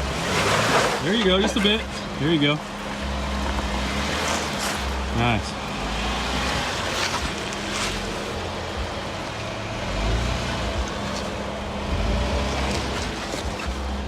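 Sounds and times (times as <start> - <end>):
engine working under load: 0.0 - 14.0.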